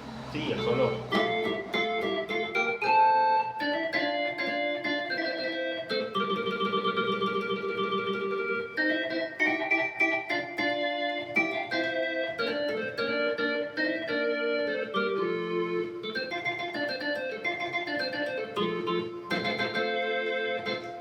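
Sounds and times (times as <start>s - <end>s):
combo organ playing melody: 0.0s - 21.0s.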